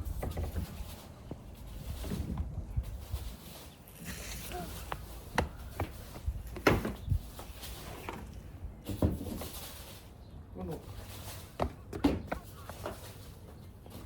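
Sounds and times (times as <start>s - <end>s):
rustling of branches: 0.0s - 11.6s.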